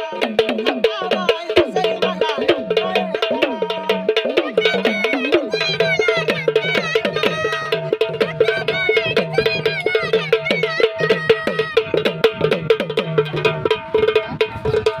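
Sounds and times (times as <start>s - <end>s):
folk drum played with sticks: 0.0s - 15.0s.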